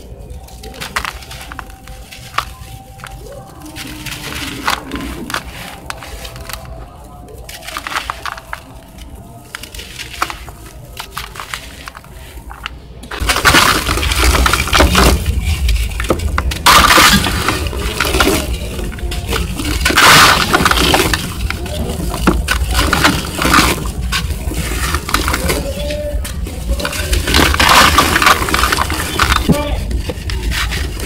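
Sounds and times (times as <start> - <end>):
dry dirt crackling: 0.0 - 31.0
gritty crunching: 0.0 - 31.0.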